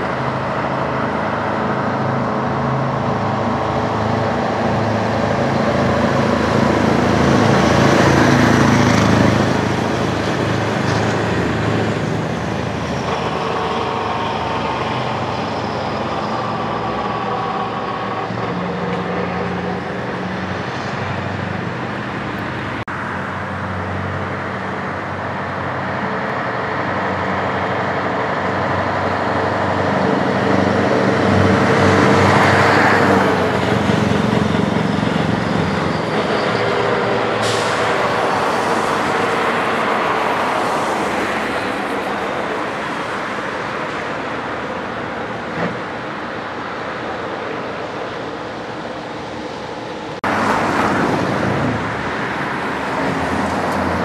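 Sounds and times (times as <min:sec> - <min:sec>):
truck diesel engine passing: 0:00.0 - 0:54.0.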